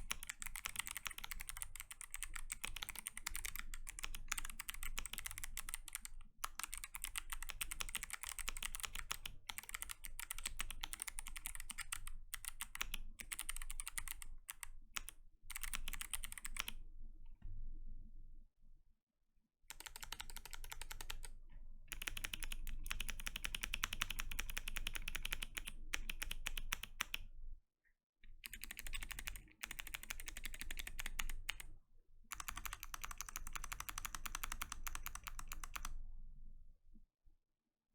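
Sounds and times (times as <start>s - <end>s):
fast clicky keyboard typing: 0.0s - 16.7s, 19.7s - 21.3s, 21.9s - 27.2s, 28.5s - 31.7s, 32.3s - 36.0s.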